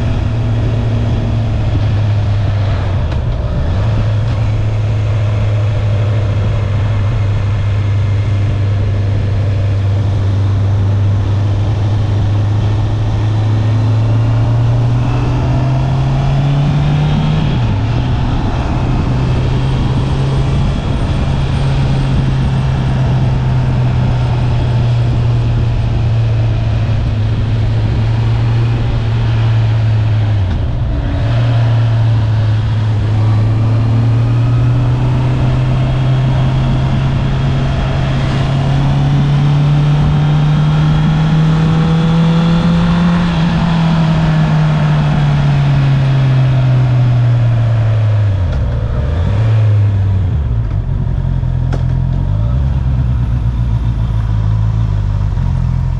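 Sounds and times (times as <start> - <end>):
wind rush: 0.0 - 54.7
motorcycle engine accelerating: 0.0 - 55.9.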